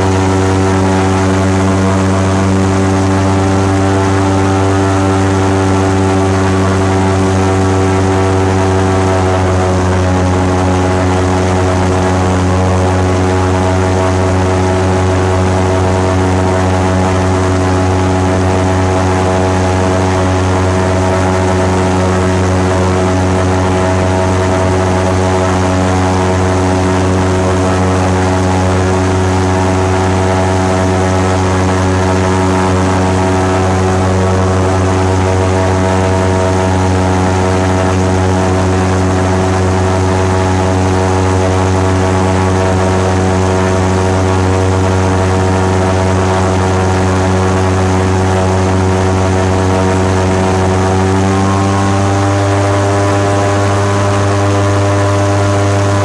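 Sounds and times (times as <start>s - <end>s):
airboat engine and propeller drone: 0.0s - 56.0s.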